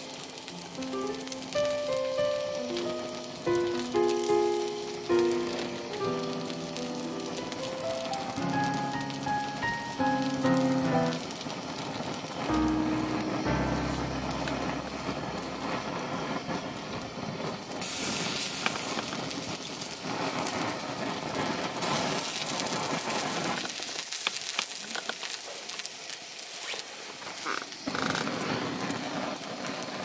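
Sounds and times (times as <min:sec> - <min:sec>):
campfire crackling and hissing: 0:00.0 - 0:30.0
fire popping: 0:00.0 - 0:30.0.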